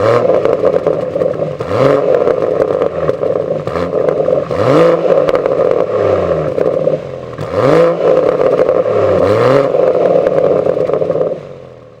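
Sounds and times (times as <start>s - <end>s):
car exhaust revving: 0.0s - 12.0s.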